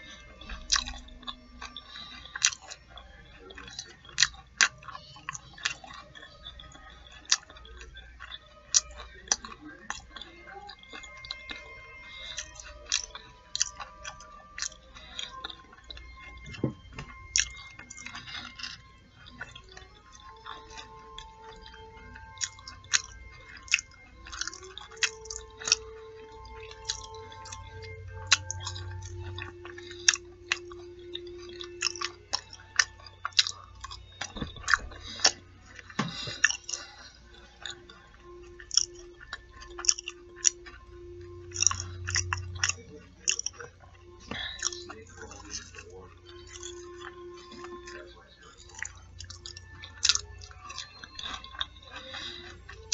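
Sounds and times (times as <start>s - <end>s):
crunchy chewing: 0.0s - 52.9s
soft background music: 0.0s - 52.9s.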